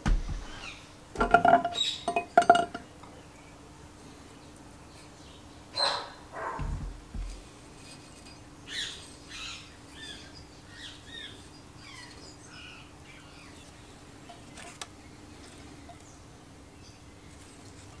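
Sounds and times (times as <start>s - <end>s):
faint steady hum: 0.0s - 18.0s
birds chirping: 0.1s - 18.0s.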